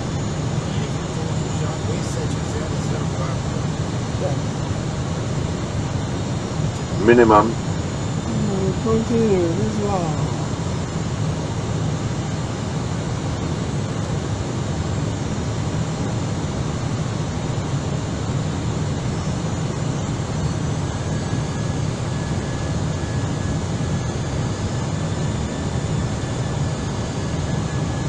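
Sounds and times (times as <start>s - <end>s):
cockpit airflow and engine noise: 0.0s - 28.0s.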